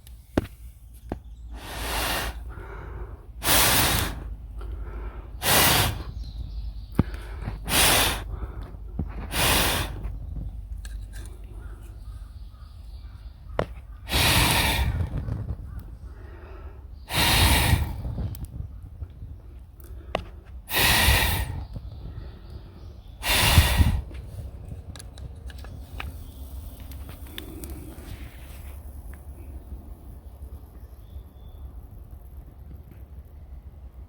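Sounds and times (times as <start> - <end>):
blowing on fire puffs: 0.0 - 12.0, 13.5 - 29.5.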